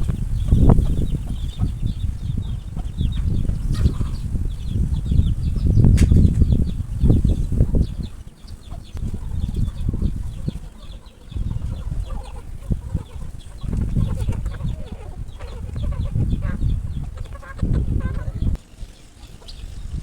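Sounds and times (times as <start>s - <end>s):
chickens clucking and cheeping: 0.0s - 20.0s.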